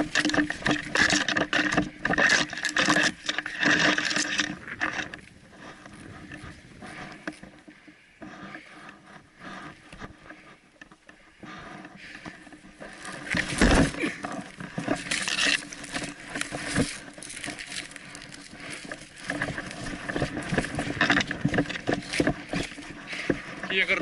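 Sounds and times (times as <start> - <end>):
clothing scraping vegetation: 0.0 - 24.0
footsteps crunching through dry brush: 0.0 - 24.0.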